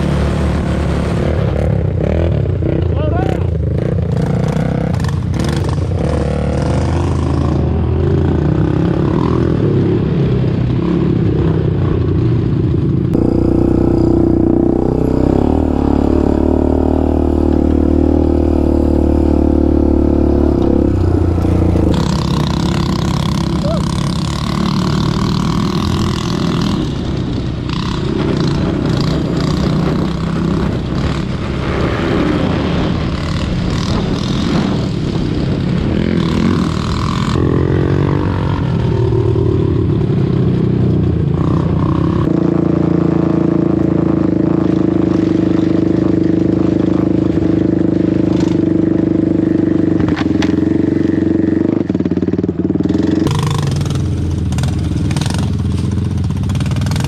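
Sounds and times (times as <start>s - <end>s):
atv engine under throttle: 0.0s - 57.0s.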